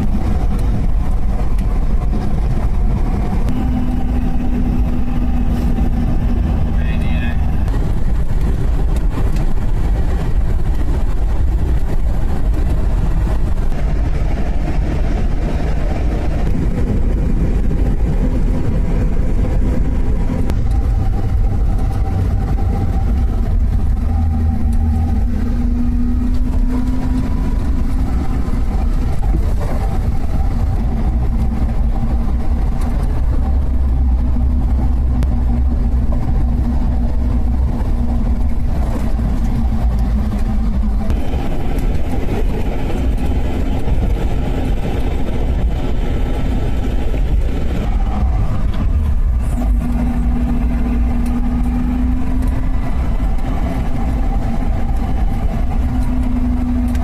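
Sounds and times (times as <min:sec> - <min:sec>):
car engine running: 0:00.0 - 0:57.0
road noise rumble: 0:00.0 - 0:57.0.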